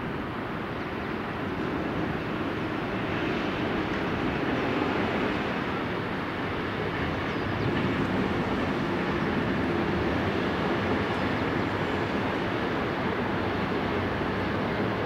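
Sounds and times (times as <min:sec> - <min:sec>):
distant passenger train rumbling: 0:00.0 - 0:15.0.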